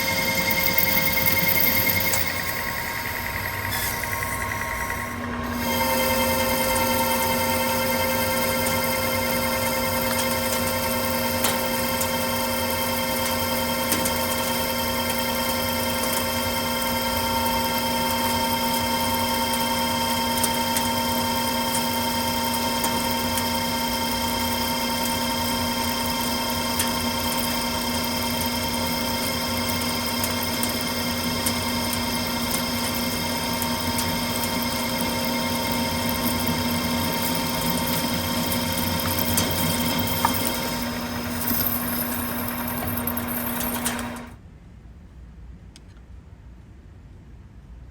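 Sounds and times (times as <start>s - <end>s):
lathe hum and whine: 0.0s - 44.4s.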